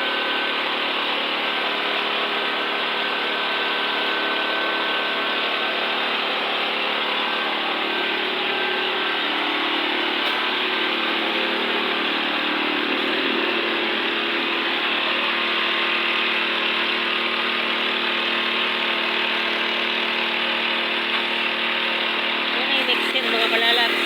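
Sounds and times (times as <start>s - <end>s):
concrete mixer engine running: 0.0s - 24.0s.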